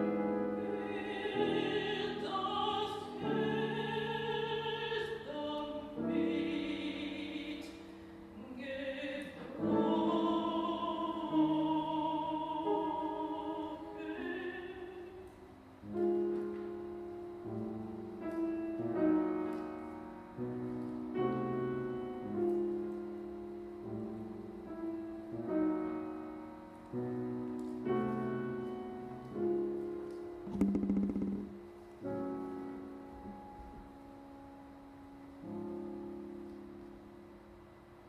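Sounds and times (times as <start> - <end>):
solo piano chords: 0.0 - 38.0.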